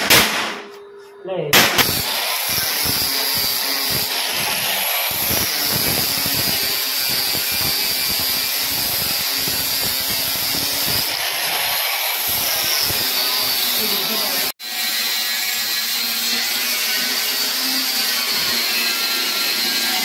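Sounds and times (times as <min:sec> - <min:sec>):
angle grinder grinding metal: 0:01.8 - 0:20.0.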